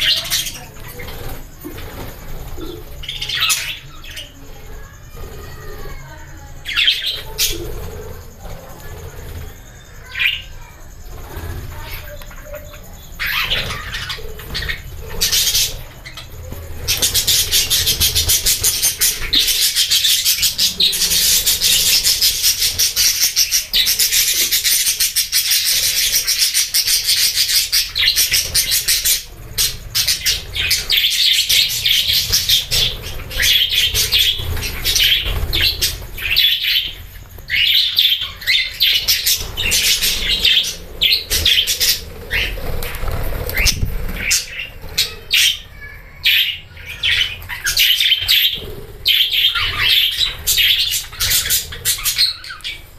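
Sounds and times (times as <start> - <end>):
budgerigars chattering: 0.0 - 52.9.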